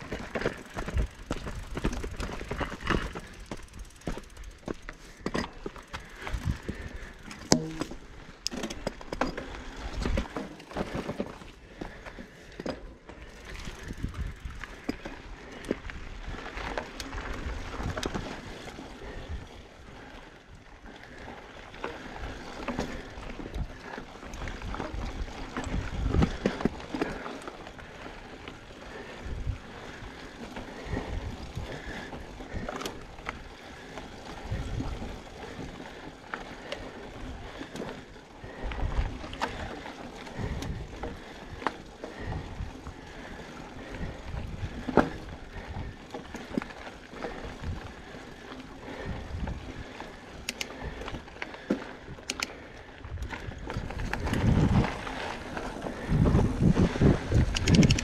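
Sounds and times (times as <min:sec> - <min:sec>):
bike knocking and rattling: 0:00.0 - 0:20.1, 0:20.8 - 0:58.0
bike tyre and drivetrain noise: 0:00.0 - 0:58.0.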